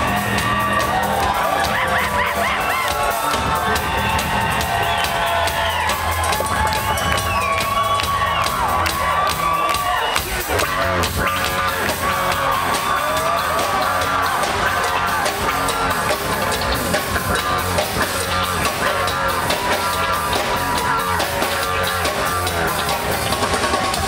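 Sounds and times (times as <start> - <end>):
drum kit steady beat: 0.0 - 24.0
live rock band playing: 0.0 - 24.0.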